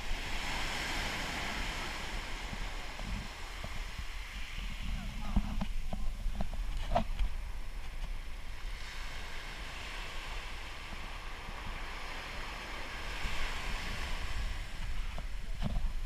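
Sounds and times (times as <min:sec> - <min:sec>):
surf washing up beach: 0:00.0 - 0:16.0
wind on microphone: 0:00.0 - 0:16.0.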